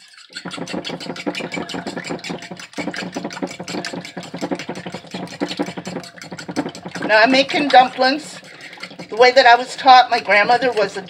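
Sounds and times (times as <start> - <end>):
fork beating eggs in a bowl: 0.0 - 11.0.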